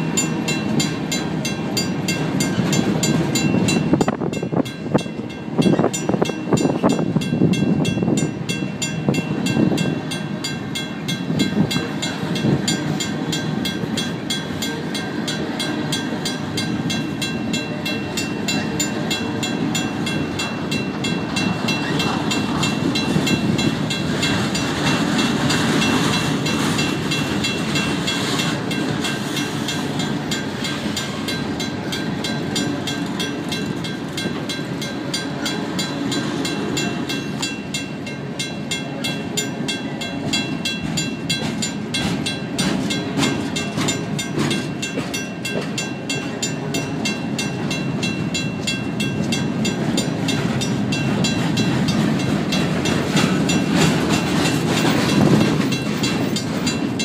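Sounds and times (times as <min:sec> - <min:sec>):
crossing signal bell ringing: 0:00.0 - 0:57.0
freight cars rumbling and clattering: 0:00.0 - 0:57.0.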